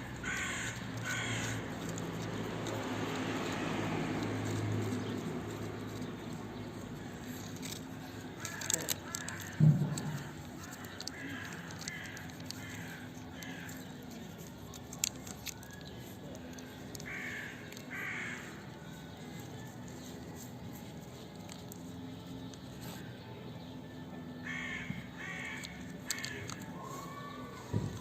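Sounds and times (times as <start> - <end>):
sharp clicks: 0.0 - 23.0, 24.5 - 26.8.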